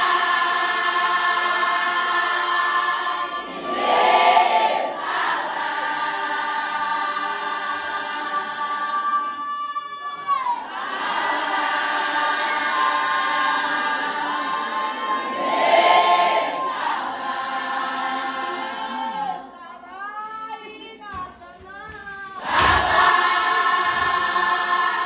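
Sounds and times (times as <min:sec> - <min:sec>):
women singing together: 0:00.0 - 0:25.0.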